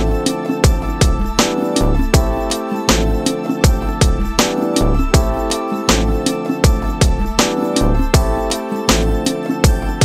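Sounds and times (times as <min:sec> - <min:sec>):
deep bass: 0:00.0 - 0:10.0
instrumental background music: 0:00.0 - 0:10.0
steady beat: 0:00.0 - 0:10.0.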